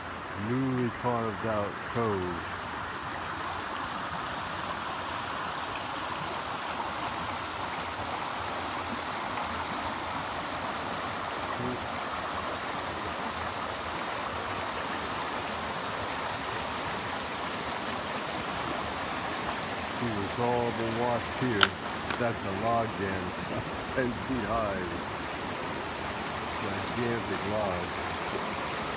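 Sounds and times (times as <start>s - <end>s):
creek water rushing over rocks: 0.0s - 28.9s.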